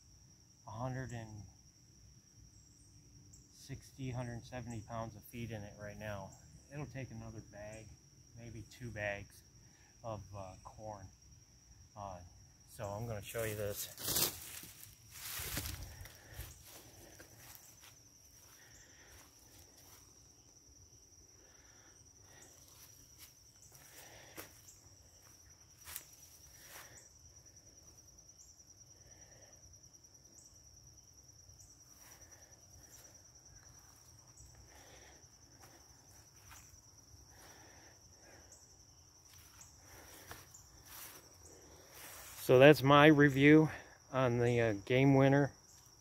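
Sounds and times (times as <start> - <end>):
high-pitched insect trill: 0.0 - 46.0.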